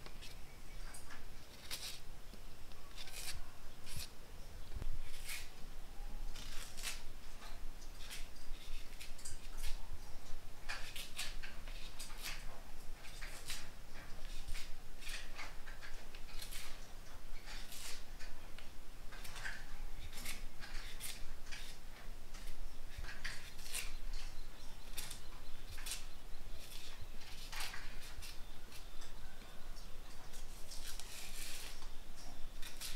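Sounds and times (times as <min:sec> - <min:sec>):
knife scraping banana skin: 0:01.0 - 0:02.1, 0:02.8 - 0:04.1, 0:05.0 - 0:05.6, 0:06.3 - 0:09.8, 0:10.7 - 0:18.3, 0:19.1 - 0:29.2, 0:30.3 - 0:32.9.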